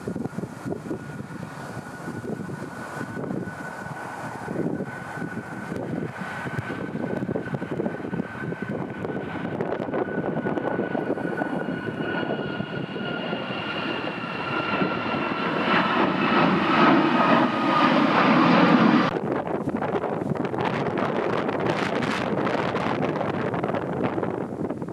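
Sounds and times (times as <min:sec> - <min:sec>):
airliner engines roaring: 0:00.0 - 0:24.9.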